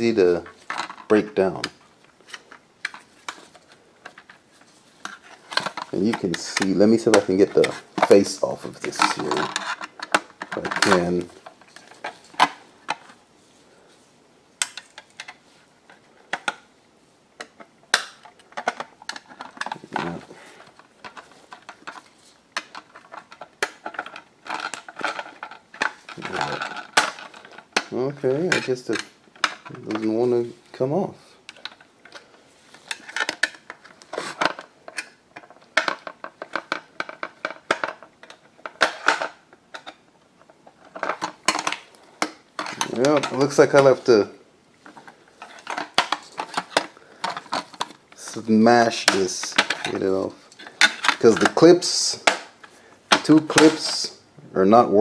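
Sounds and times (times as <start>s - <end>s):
plastic parts clicking: 0.0s - 13.2s, 14.6s - 16.7s, 17.4s - 30.1s, 31.5s - 44.1s, 44.8s - 54.1s.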